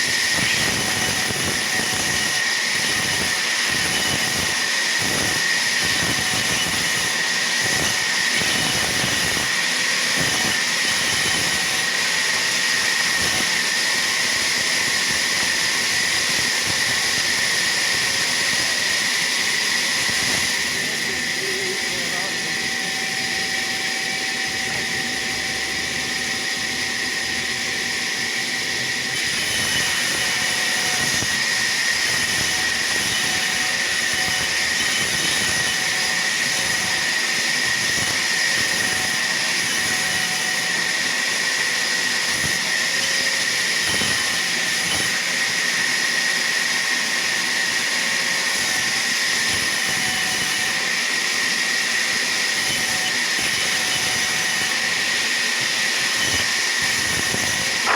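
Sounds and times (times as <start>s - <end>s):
sawmill saw whining: 0.0s - 57.9s.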